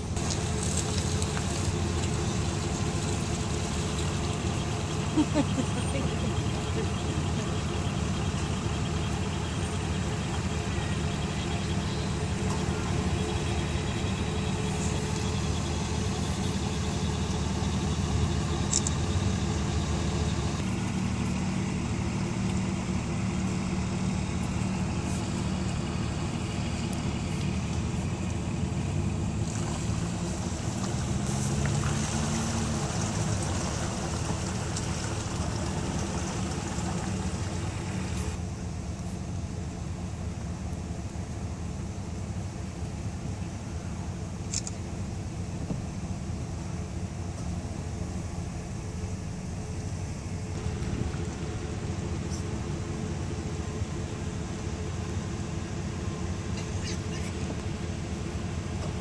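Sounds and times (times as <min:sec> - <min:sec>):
car engine humming: 0:00.0 - 0:59.0.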